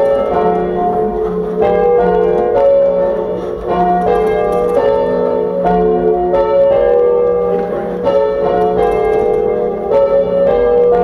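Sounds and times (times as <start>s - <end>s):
church bells ringing: 0.0s - 11.0s.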